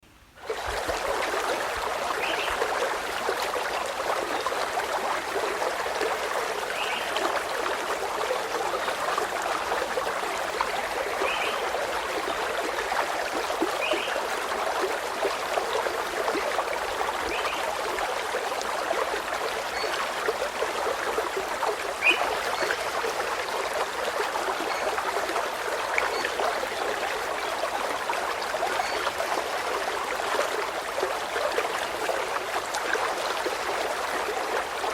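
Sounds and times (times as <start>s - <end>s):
water trickling: 0.3s - 34.9s.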